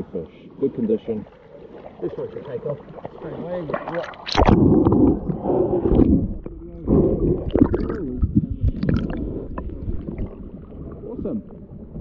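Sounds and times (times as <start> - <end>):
muffled underwater gurgling: 2.0 - 12.0.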